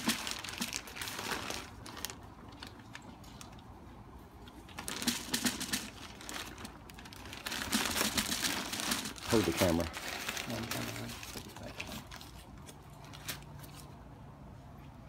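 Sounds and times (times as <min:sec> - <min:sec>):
plastic crinkling: 0:00.0 - 0:03.7, 0:04.6 - 0:14.0.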